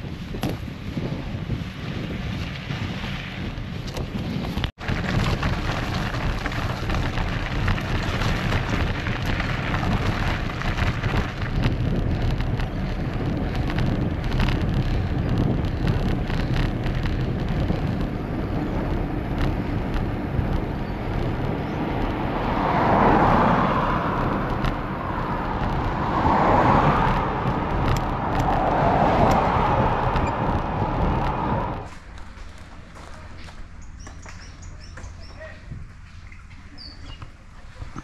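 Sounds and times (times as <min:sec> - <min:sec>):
wind rushing over microphone: 0:00.0 - 0:32.1, 0:33.8 - 0:38.0
tyres rumbling on trail: 0:00.0 - 0:38.0.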